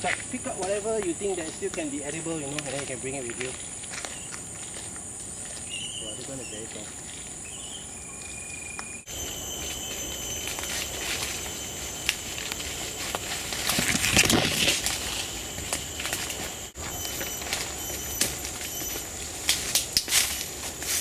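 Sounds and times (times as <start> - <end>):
footsteps crunching through dry leaves: 0.0 - 7.4, 9.1 - 21.0
high-pitched insect chorus: 0.0 - 21.0.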